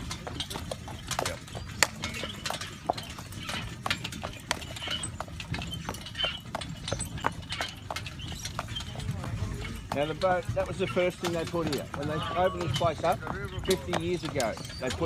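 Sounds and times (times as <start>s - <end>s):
carriage rumbling: 0.0s - 15.0s
horse hooves clip-clopping on dirt: 0.0s - 15.0s.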